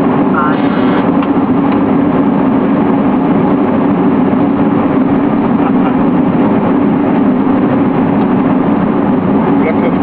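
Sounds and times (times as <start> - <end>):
aircraft cabin engine drone: 0.0 - 10.0.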